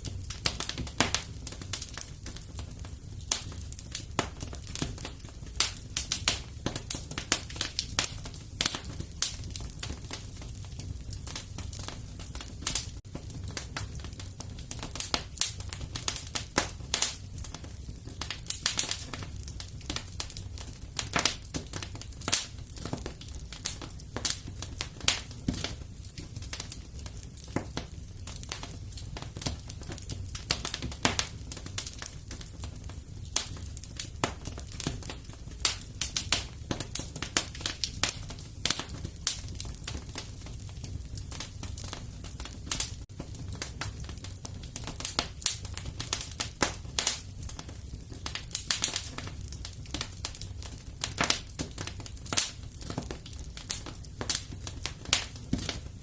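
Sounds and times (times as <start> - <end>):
low rumble of burning: 0.0 - 56.0
wood fire crackling: 0.0 - 56.0.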